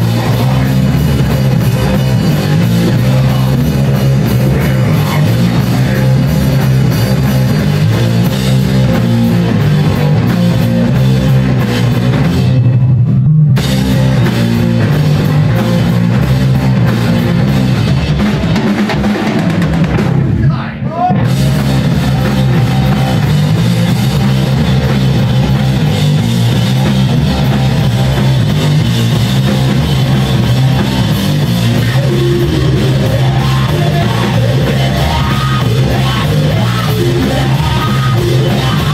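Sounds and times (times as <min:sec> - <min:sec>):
bass guitar: 0:00.0 - 0:38.9
distorted electric guitar: 0:00.0 - 0:38.9
drum kit: 0:00.0 - 0:38.9.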